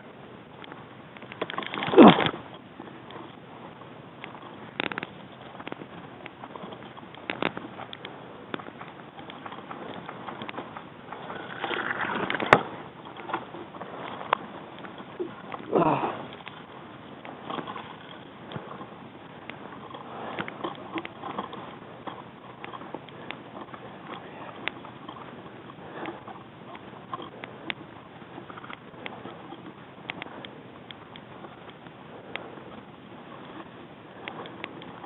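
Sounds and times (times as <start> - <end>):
small clicks and knocks: 0.6 - 3.4, 4.2 - 15.7, 16.3 - 32.5.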